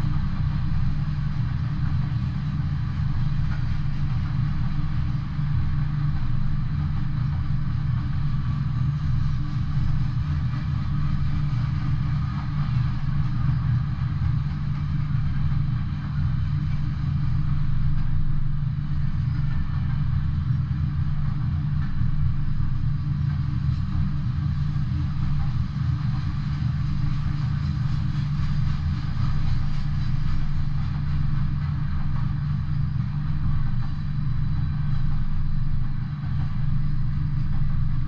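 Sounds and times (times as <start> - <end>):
freight train rumbling on rails: 0.0 - 38.0.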